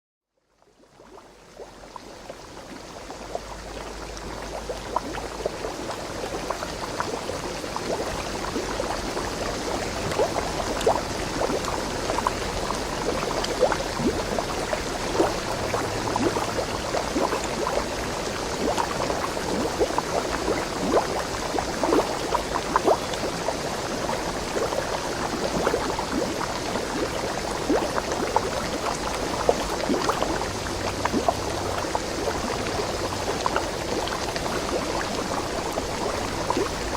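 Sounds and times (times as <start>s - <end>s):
water running over rocks: 1.3s - 36.9s.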